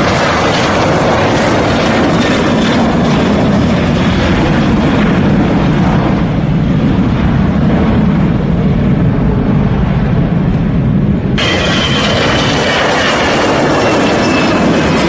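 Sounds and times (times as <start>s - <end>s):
airplane engine running: 0.0s - 15.0s.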